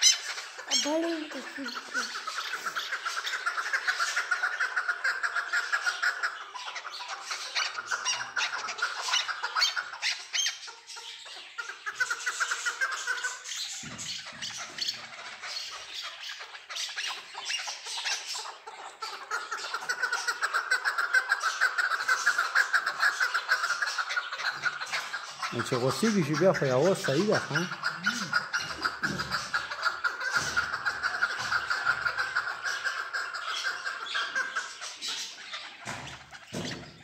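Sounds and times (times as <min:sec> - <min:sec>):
partridges calling: 0:00.0 - 0:37.0.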